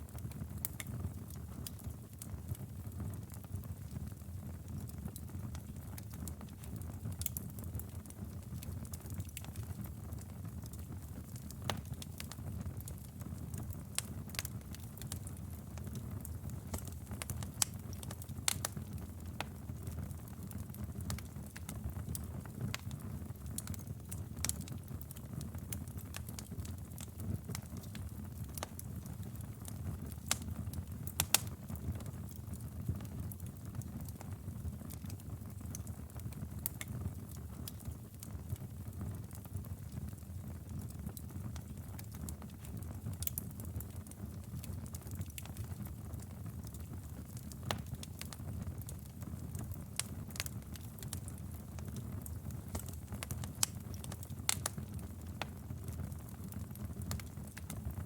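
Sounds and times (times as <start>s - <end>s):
fire crackling with pops: 0.0s - 58.0s.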